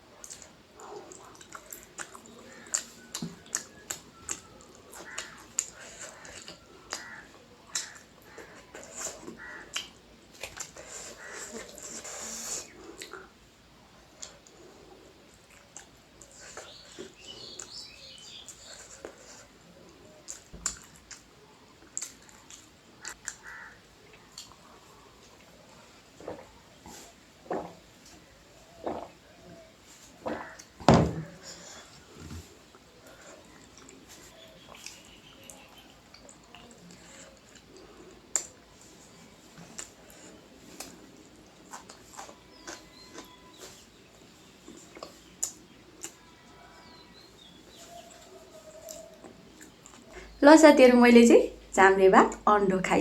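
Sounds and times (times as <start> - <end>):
mouth chewing sounds: 0.0 - 13.4, 14.1 - 30.7, 31.4 - 50.4.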